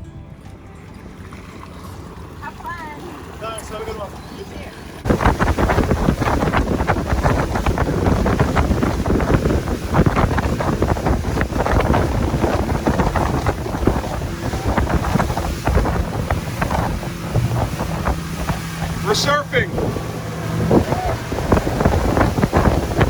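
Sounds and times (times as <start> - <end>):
water splashing against hull: 0.4 - 23.0
wind buffeting microphone: 1.4 - 23.0.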